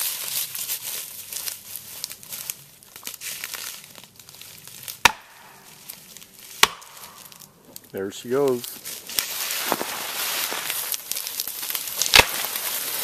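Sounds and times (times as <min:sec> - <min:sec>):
footsteps crunching through dry leaves: 0:00.0 - 0:13.0.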